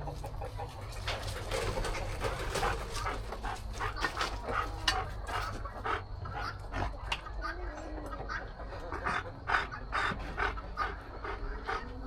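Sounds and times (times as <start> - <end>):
dog panting: 0.4 - 7.7, 8.3 - 12.0.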